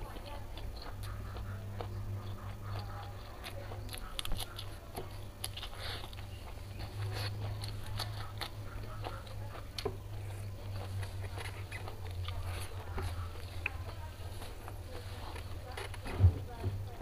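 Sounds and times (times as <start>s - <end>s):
crunching lettuce: 0.0s - 16.1s.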